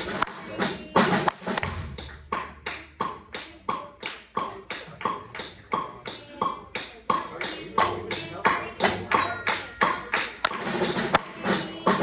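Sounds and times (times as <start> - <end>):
ringing percussive taps: 0.2 - 12.0.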